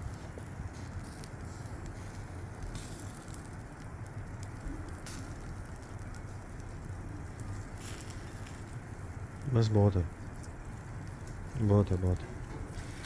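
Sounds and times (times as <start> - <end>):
charcoal fire crackling: 0.0 - 13.0
steady low rumble: 0.0 - 13.0.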